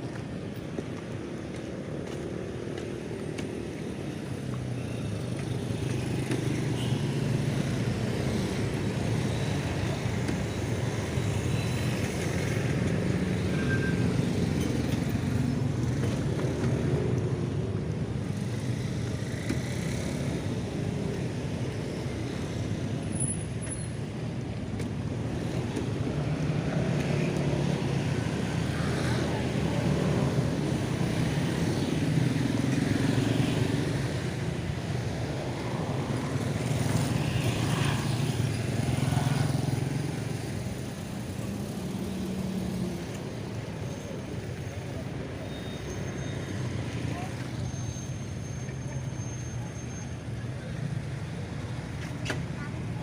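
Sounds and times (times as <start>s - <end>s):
road and traffic noise: 0.0s - 53.0s.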